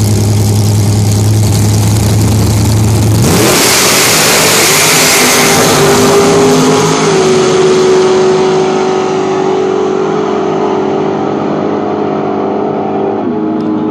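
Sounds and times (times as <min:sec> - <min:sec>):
drag racing cars accelerating: 0:00.0 - 0:13.9
steady engine note: 0:00.0 - 0:13.9.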